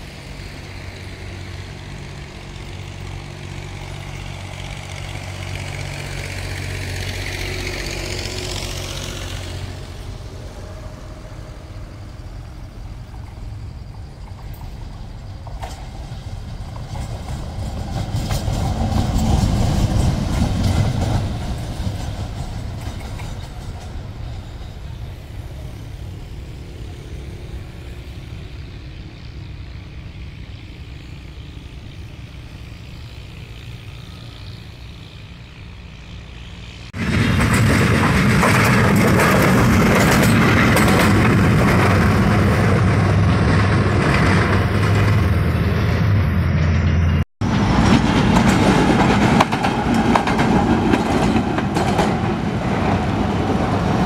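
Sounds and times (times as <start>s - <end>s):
diesel locomotive rumbling past: 0.0s - 54.0s
loud close locomotive rumble: 0.0s - 54.0s
train wheels on rails: 0.0s - 54.0s.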